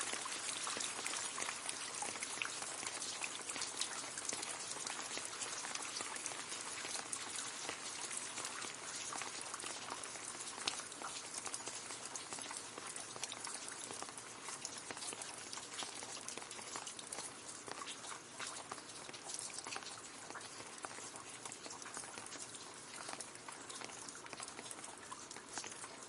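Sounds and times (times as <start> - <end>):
rain pattering on leaves: 0.0 - 26.0.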